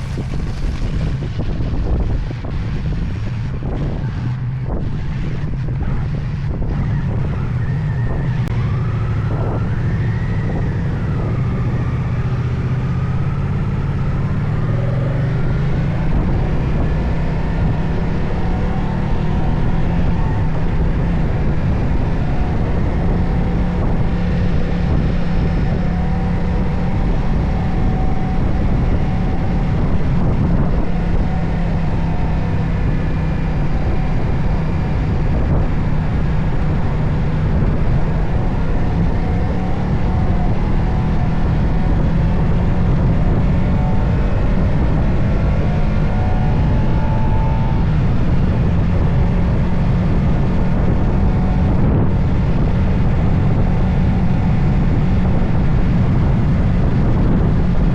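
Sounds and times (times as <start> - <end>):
motorcycle engine running: 0.0 - 57.9
wind and road rush: 0.0 - 57.9.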